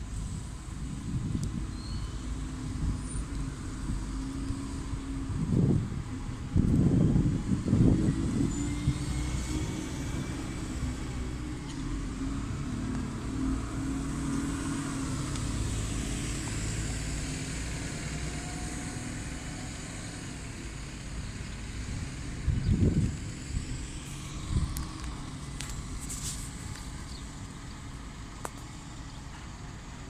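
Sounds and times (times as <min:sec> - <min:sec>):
bus engine humming: 0:00.0 - 0:30.0.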